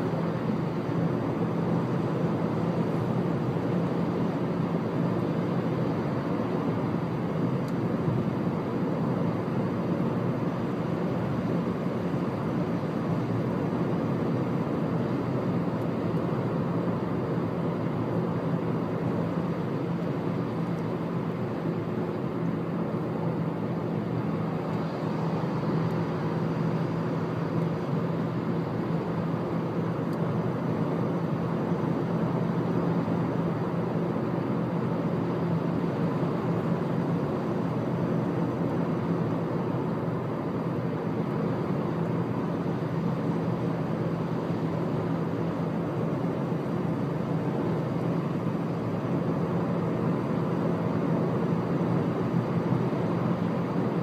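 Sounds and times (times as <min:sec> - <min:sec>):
low engine drone: 0:00.0 - 0:54.0
road and tyre noise: 0:00.0 - 0:54.0.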